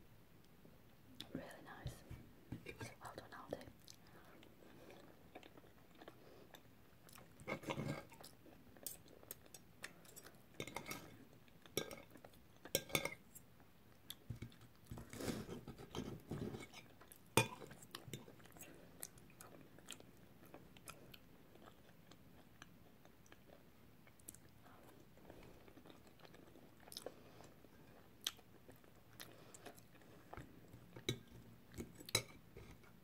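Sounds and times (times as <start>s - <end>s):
close-up chewing: 3.8s - 12.8s, 13.9s - 33.0s.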